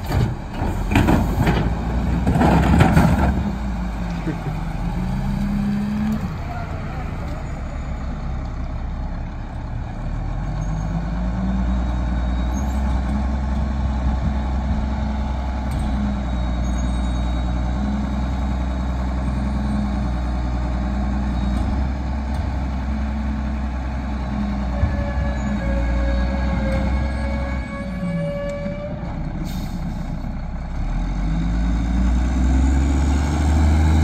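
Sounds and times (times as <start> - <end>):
diesel truck engine drone: 0.0 - 34.0.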